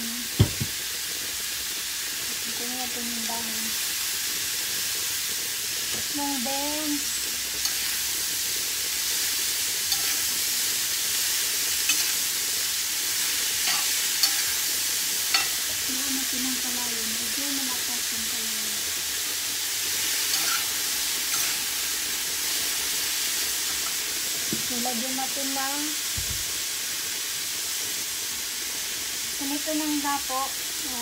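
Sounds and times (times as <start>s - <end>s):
vegetables sizzling in a frying pan: 0.0s - 31.0s.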